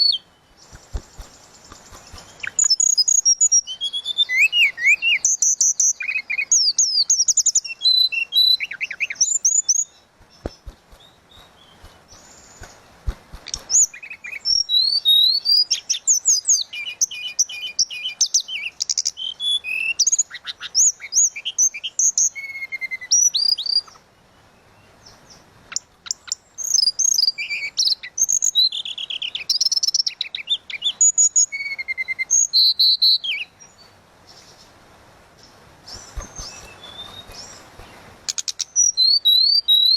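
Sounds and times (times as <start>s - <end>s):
songbird singing whistled song: 0.0s - 34.7s, 35.4s - 39.9s.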